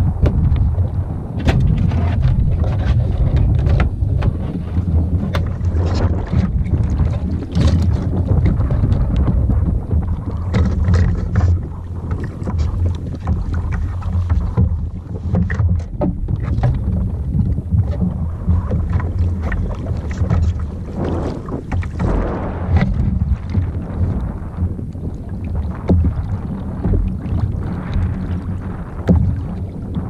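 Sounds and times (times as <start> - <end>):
water splashing against hull: 0.0 - 30.0
wind buffeting microphone: 0.0 - 30.0.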